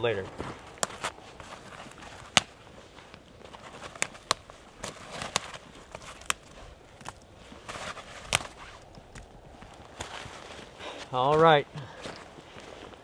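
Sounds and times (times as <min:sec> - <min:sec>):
crunches in icy snow and brush: 0:00.0 - 0:13.0.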